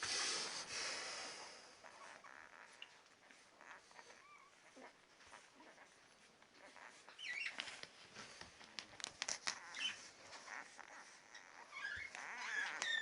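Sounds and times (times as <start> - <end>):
puppies squeaking and whimpering: 1.2 - 13.0
small clicks and rustles: 1.8 - 13.0.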